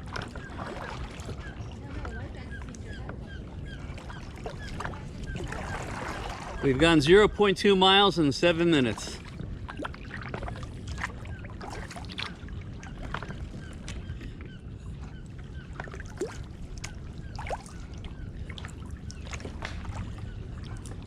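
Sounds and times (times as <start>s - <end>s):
paddle splashing and dripping: 0.0s - 21.0s.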